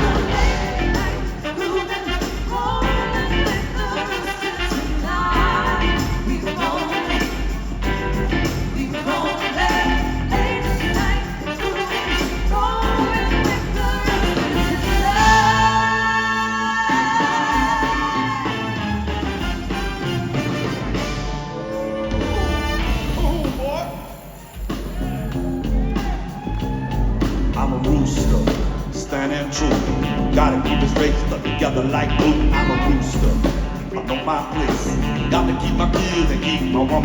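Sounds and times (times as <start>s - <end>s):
live band playing: 0.0s - 37.0s.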